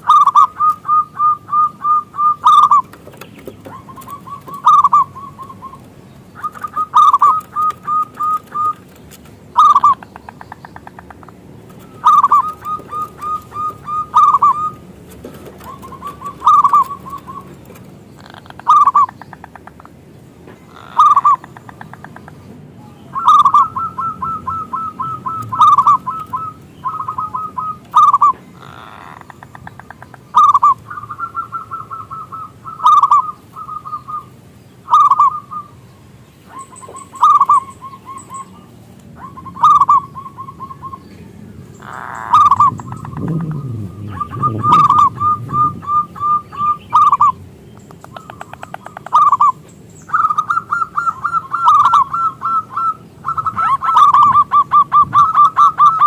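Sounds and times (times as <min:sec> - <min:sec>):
dove cooing: 0:00.0 - 0:19.9, 0:20.6 - 0:22.3, 0:23.1 - 0:35.8, 0:36.4 - 0:56.0.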